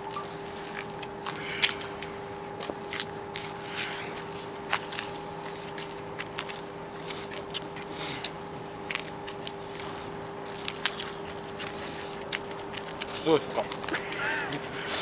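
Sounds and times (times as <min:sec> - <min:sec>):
lemons being chewed: 0:00.0 - 0:14.1
faint hum: 0:00.0 - 0:15.0.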